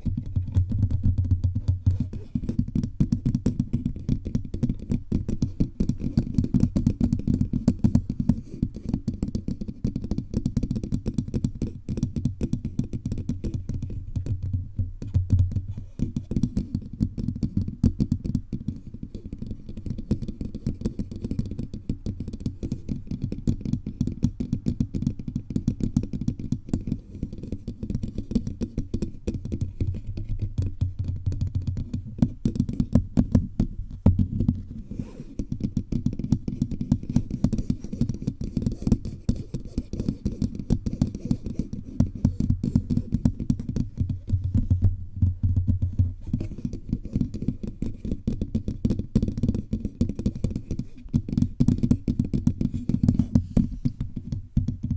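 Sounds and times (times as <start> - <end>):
fingertips tapping microphone: 0.0 - 54.9.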